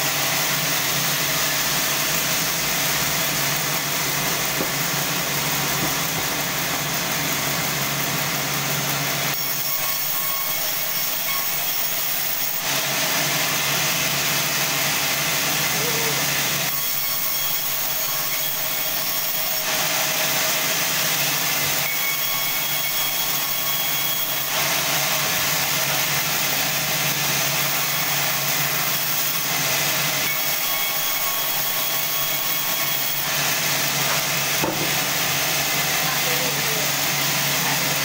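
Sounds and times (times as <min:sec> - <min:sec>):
bandsaw cutting log: 0:00.0 - 0:38.0.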